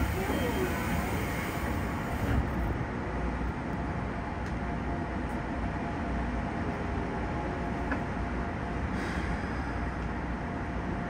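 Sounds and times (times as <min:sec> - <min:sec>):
train equipment rumble and hum: 0:00.0 - 0:11.0.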